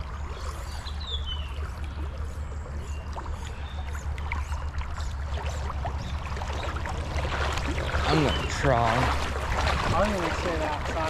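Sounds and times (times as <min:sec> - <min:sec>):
creek water splashing: 0:00.0 - 0:11.0
steady low rumble: 0:00.0 - 0:11.0.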